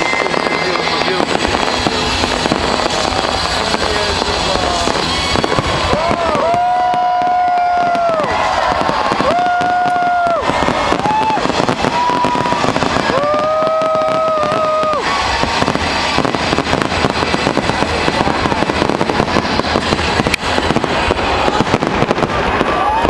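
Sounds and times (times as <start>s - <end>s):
fireworks bursting and crackling: 0.0s - 23.0s.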